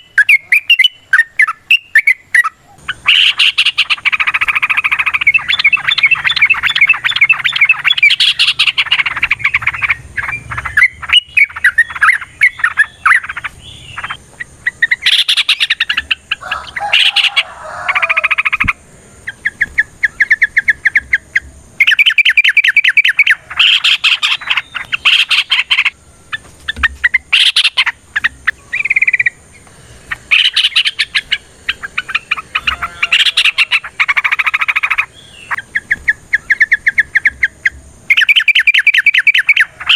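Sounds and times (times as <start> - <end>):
bulbuls singing rattling trills: 0.0 - 39.9.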